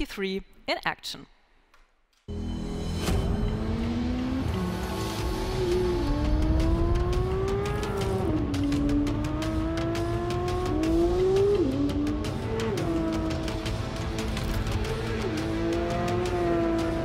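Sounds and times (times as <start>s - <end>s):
car engine accelerating hard: 3.2s - 17.0s.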